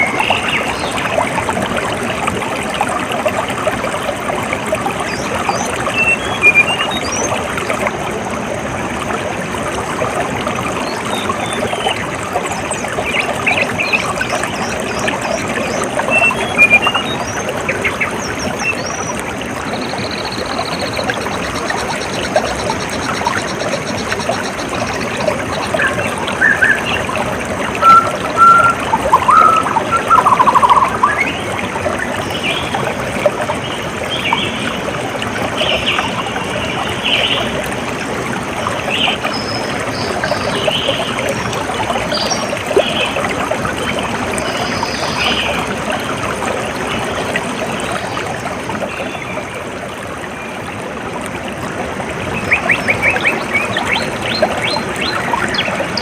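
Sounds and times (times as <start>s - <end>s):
water trickling and flowing: 0.0s - 56.0s.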